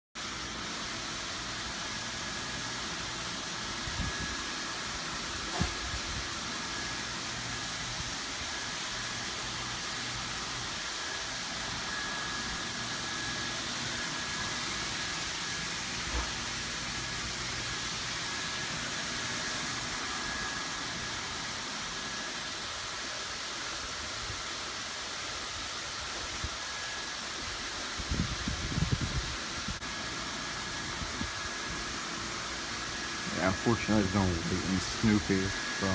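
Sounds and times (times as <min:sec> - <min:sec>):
blower fan hissing: 0:00.2 - 0:35.9
faint high whine: 0:00.2 - 0:35.9.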